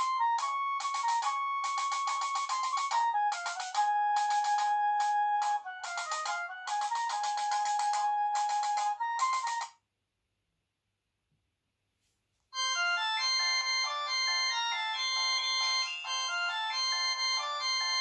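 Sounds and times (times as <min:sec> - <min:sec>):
phone ringtone melody: 0:00.0 - 0:09.7, 0:12.6 - 0:18.0.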